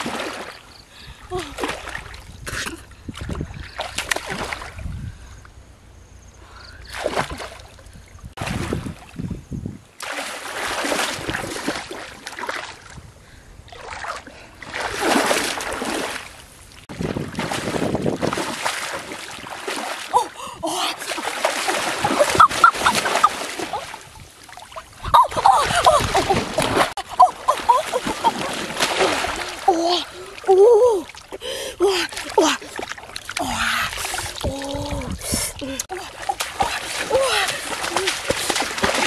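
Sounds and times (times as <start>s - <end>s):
water splashing from wading: 0.0s - 4.9s, 6.8s - 9.2s, 10.0s - 13.0s, 13.7s - 39.0s.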